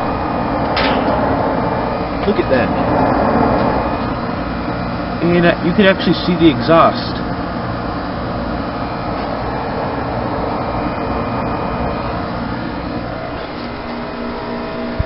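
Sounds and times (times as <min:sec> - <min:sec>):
heat pump units running: 0:00.0 - 0:15.0.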